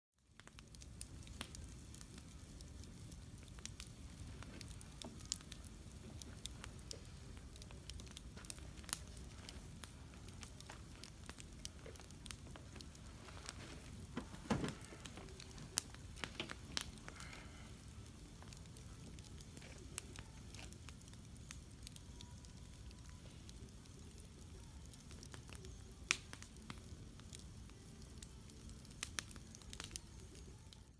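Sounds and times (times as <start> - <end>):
campfire crackling and popping: 0.2 - 30.9.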